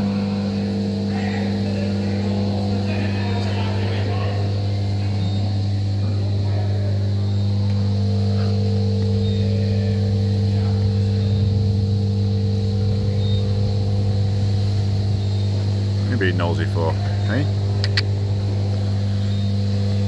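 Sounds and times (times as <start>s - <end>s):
electric motor drone: 0.0s - 20.0s
high steady machine tone: 0.0s - 20.0s.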